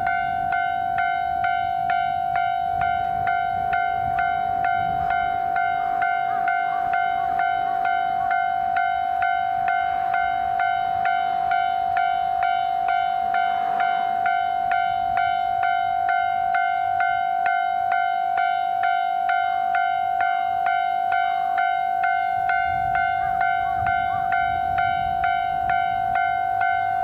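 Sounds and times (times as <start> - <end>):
level crossing warning bell: 0.0 - 27.0.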